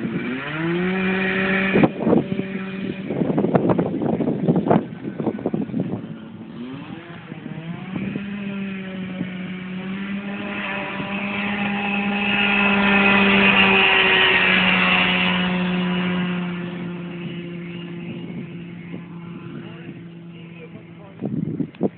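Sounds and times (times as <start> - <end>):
kart engine running: 0.0 - 21.9.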